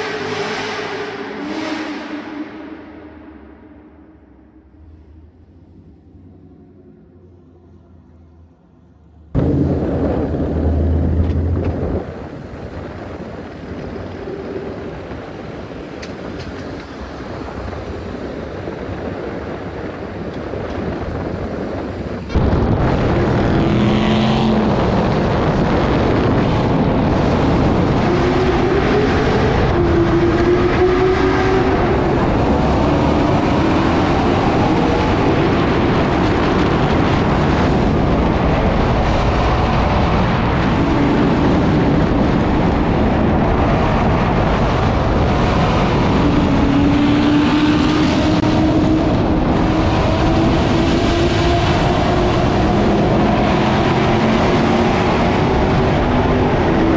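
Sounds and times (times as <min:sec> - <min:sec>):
car engine accelerating: 0:00.0 - 0:56.9
road noise: 0:00.0 - 0:56.9
wind noise: 0:00.0 - 0:56.9.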